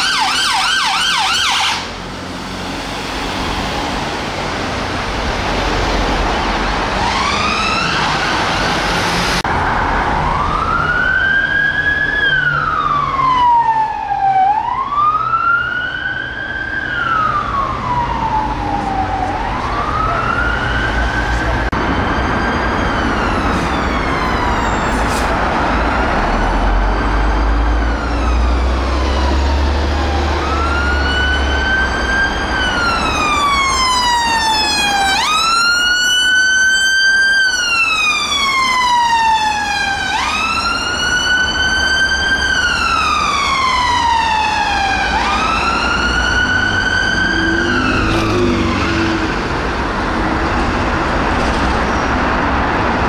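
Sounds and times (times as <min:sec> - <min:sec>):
ambulance siren wailing: 0:00.0 - 0:04.6, 0:05.9 - 0:50.5.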